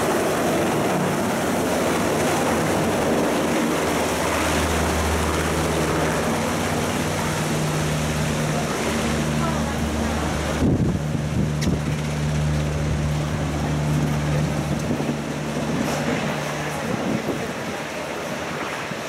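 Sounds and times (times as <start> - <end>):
helicopter rotors and engines: 0.0 - 19.0.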